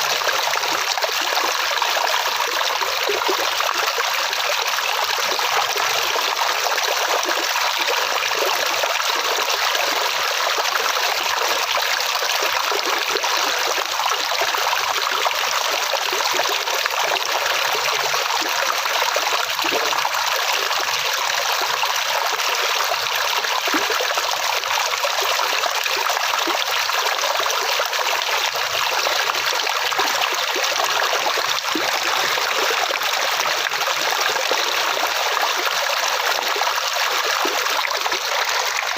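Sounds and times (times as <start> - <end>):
stream water rushing and trickling: 0.0 - 38.9.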